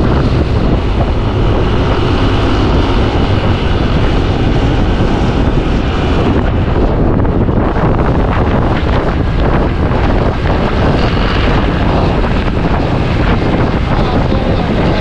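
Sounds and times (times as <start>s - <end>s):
vehicle rumble on road: 0.0s - 15.0s
wind buffeting microphone: 0.0s - 15.0s.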